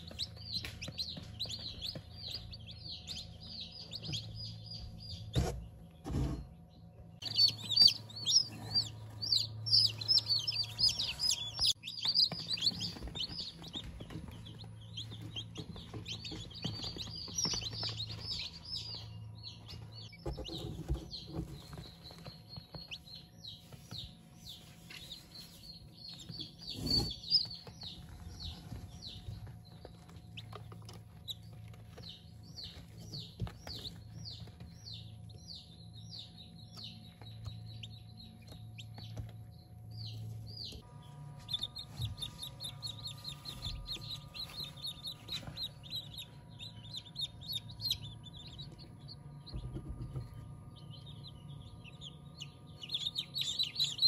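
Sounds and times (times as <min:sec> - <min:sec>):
chicks peeping and chirping: 0:00.0 - 0:54.0
steady low hum: 0:00.0 - 0:54.0.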